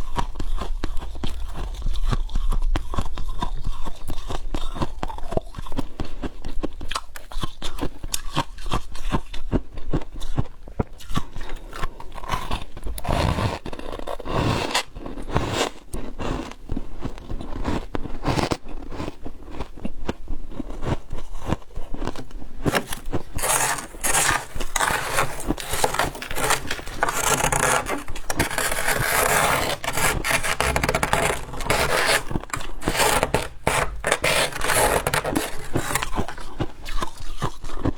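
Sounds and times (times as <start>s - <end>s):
ice crunching being chewed: 0.0s - 37.9s.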